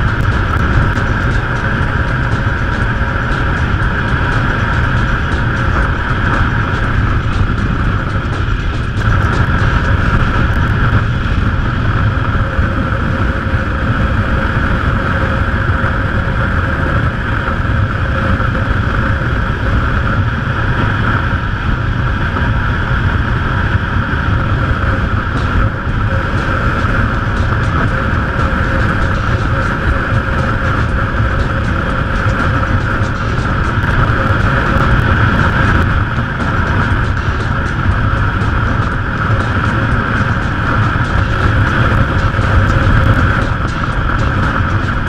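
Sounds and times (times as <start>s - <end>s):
motorcycle engine drone: 0.0s - 45.0s
wind rush: 0.0s - 45.0s.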